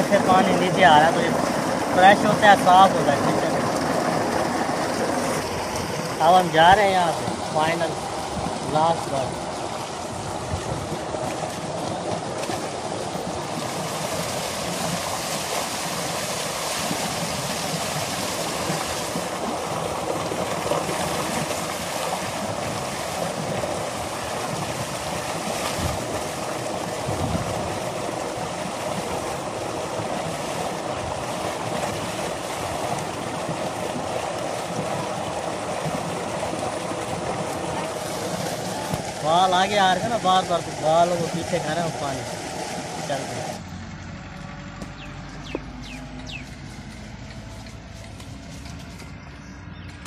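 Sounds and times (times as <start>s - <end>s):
water jet gushing into a tank: 0.0s - 49.0s
water splashing: 0.0s - 50.0s.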